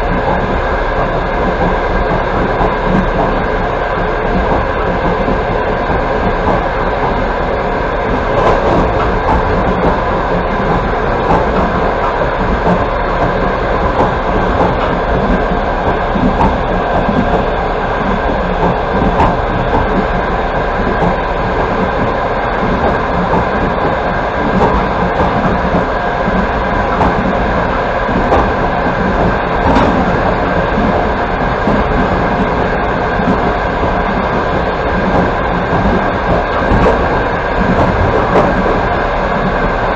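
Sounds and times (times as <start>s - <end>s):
knocks from train wheels: 0.0s - 39.9s
train wheels running on rails: 0.0s - 39.9s.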